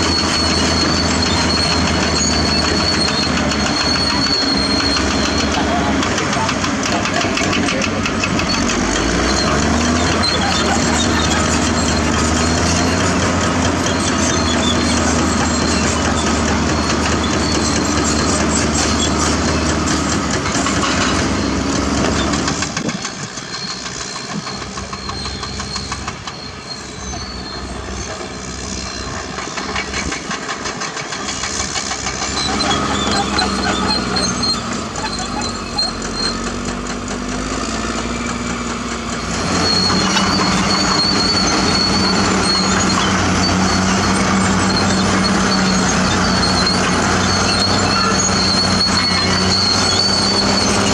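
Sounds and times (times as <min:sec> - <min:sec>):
bulldozer diesel engine clattering: 0:00.0 - 0:50.9.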